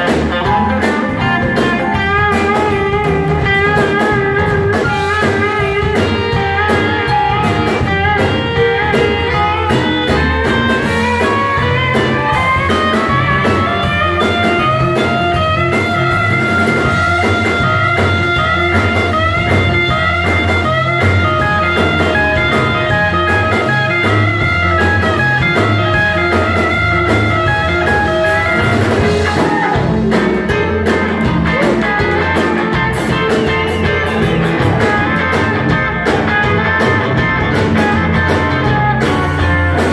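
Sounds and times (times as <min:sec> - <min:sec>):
guitar: 0:00.0 - 0:39.9
live rock band playing: 0:00.0 - 0:39.9.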